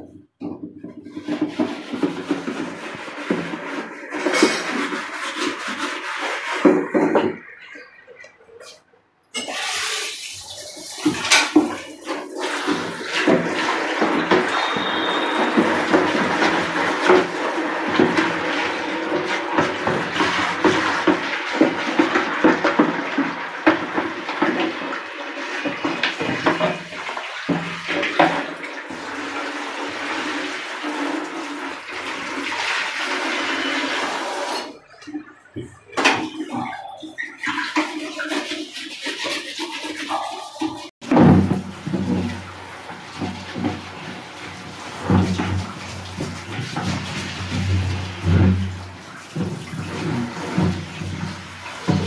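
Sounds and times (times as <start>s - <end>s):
shower spray on plastic: 0.9s - 7.4s, 9.4s - 34.7s, 36.0s - 52.0s.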